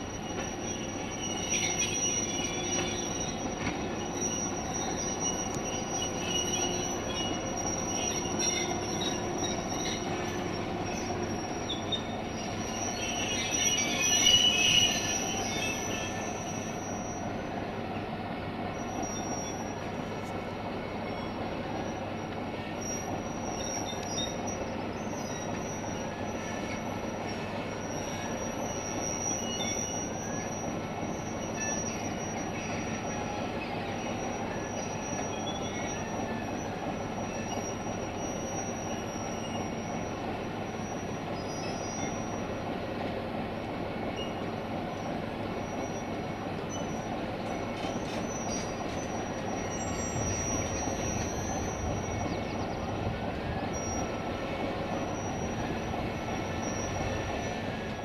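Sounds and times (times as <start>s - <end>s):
high-pitched wheel squeal: 0.0s - 17.5s, 18.8s - 42.5s, 43.9s - 58.0s
train rumbling on rails: 0.0s - 58.0s.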